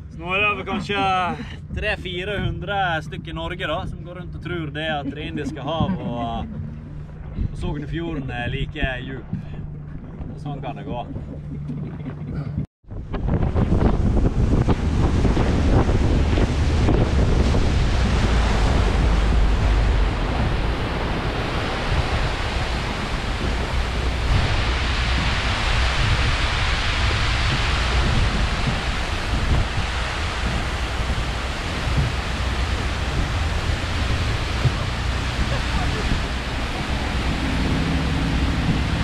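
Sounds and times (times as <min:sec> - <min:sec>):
water rushing: 0:00.0 - 0:39.0
wind buffeting microphone: 0:00.0 - 0:39.0.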